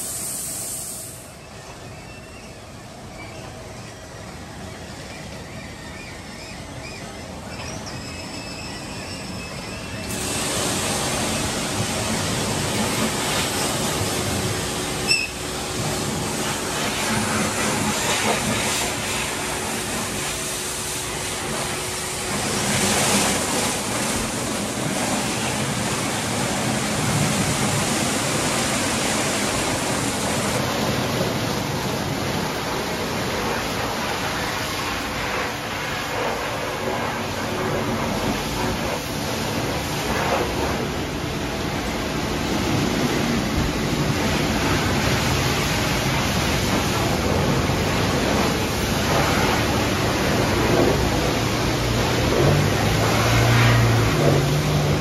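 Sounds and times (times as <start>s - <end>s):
spraying water: 0.0s - 1.5s, 7.3s - 55.0s
steady motor hum: 9.4s - 55.0s
car wash brushes spinning: 10.1s - 55.0s.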